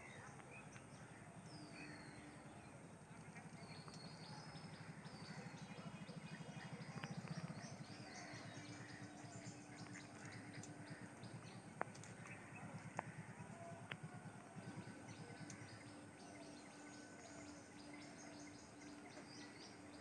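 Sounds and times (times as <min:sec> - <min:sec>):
faint pulsing low rumble: 0:00.0 - 0:20.0
small birds chirping: 0:00.0 - 0:20.0.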